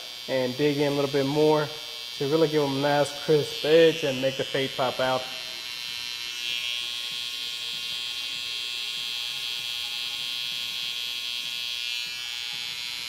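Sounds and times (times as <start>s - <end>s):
hair trimmer buzzing: 0.0s - 13.0s.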